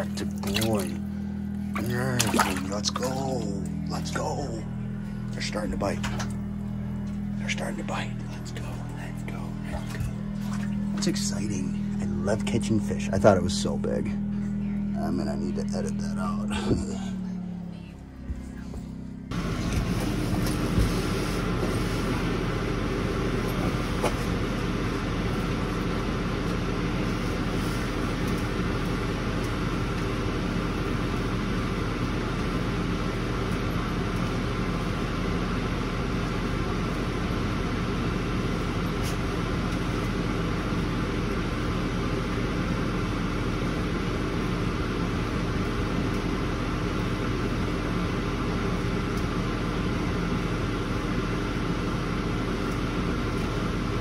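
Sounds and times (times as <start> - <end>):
machine drone: 0.0 - 54.0.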